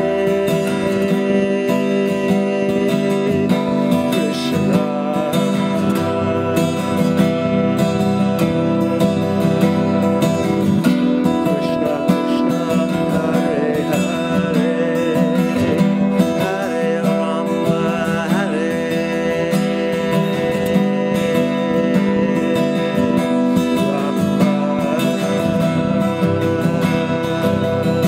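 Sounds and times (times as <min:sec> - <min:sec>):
acoustic guitar strummed: 0:00.0 - 0:28.0.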